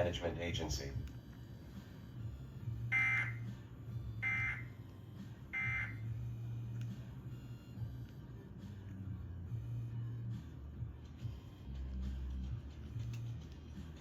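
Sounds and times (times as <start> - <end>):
low hum: 0.7 - 14.0.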